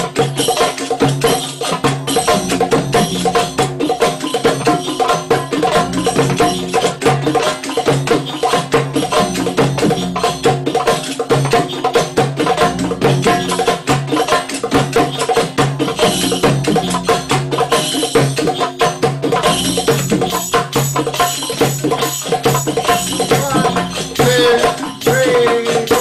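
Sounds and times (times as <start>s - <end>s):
hand drums playing fast rhythm: 0.0s - 26.0s.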